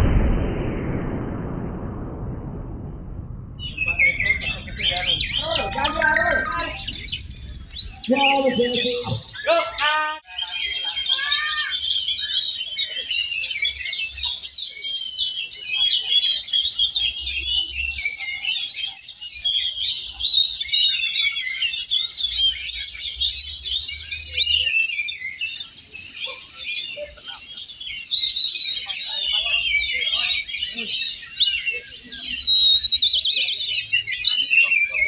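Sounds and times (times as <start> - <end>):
many birds singing: 3.6 - 35.0.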